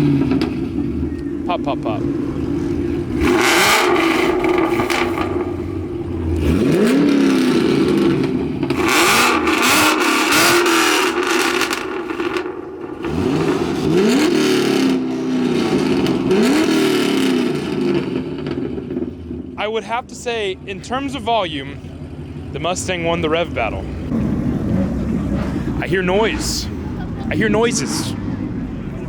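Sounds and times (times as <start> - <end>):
exhaust pops: 0.0 - 27.7
car engines revving: 0.0 - 29.0.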